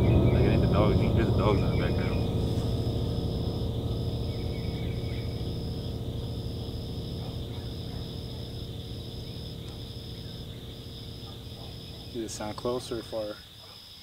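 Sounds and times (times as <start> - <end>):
low rumble: 0.0 - 13.1
crickets trilling: 0.0 - 14.0.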